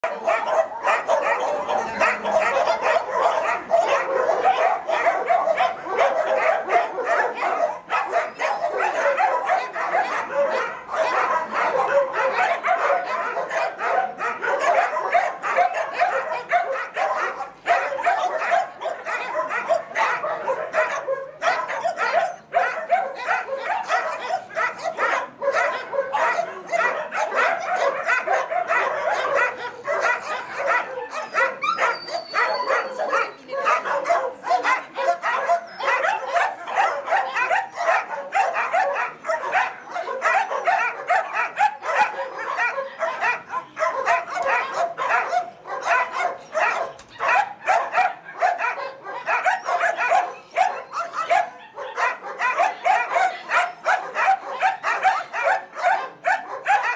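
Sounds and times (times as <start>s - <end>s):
dogs whining: 0.0s - 25.0s, 27.6s - 47.8s, 49.1s - 53.8s
dogs barking and yipping: 0.0s - 56.9s.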